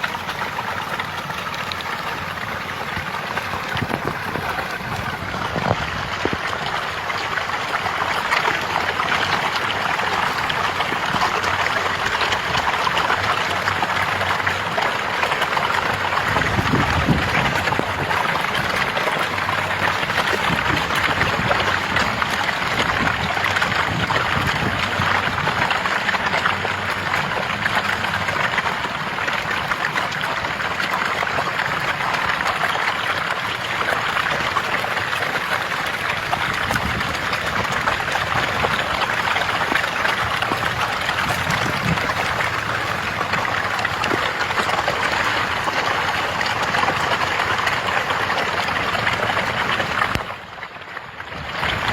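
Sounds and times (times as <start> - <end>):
water churning and splashing: 0.0 - 51.9.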